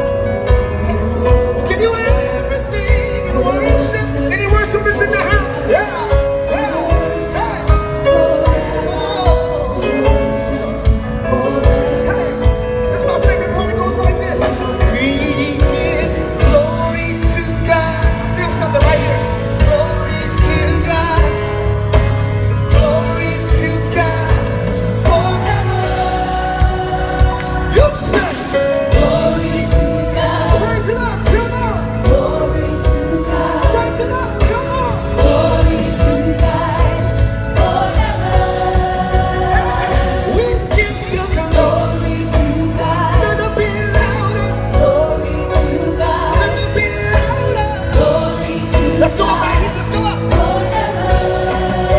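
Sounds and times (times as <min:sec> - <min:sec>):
choir singing: 0:00.0 - 0:51.9
live gospel band: 0:00.0 - 0:51.9
steady drum beat: 0:00.0 - 0:51.9.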